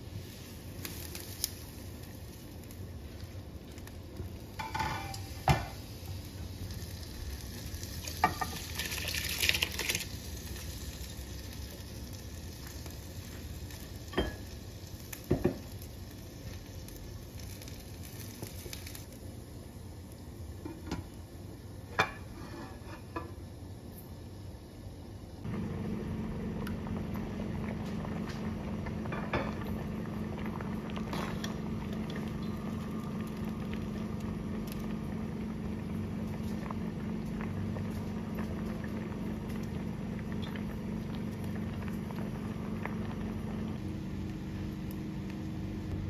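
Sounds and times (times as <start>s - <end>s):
water heating with steady hiss: 0.0s - 46.0s.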